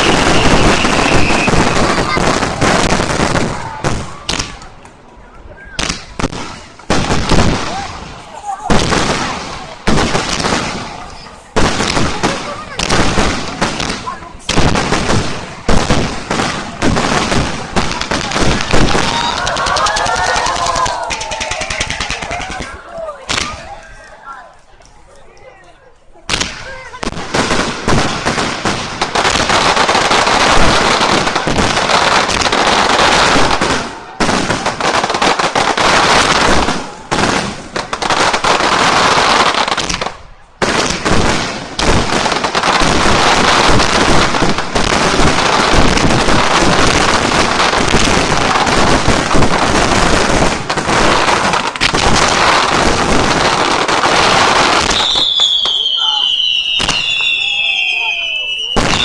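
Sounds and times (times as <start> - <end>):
fireworks bangs and crackling: 0.0 - 25.0, 26.2 - 59.0.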